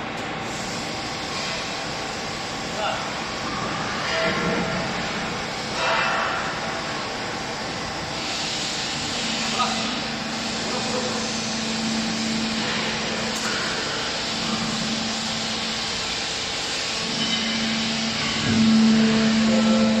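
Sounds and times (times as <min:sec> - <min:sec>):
baling press machine hum: 0:00.0 - 0:20.0.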